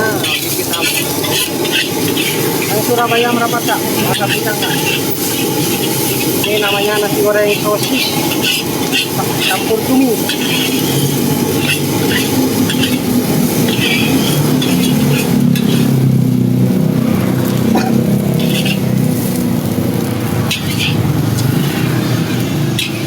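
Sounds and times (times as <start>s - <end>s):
food sizzling in a wok: 0.0s - 23.0s
metal spatula scraping a wok: 0.0s - 23.0s.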